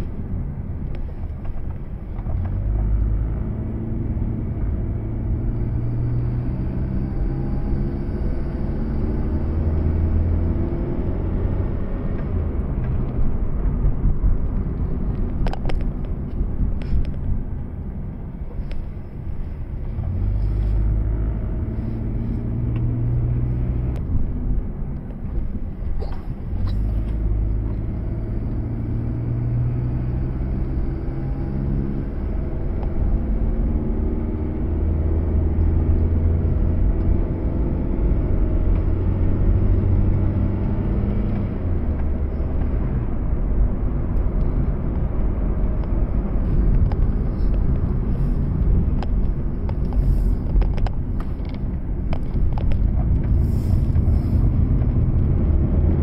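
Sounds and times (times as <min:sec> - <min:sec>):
car engine hum: 0:00.0 - 0:56.0
road noise: 0:00.0 - 0:56.0.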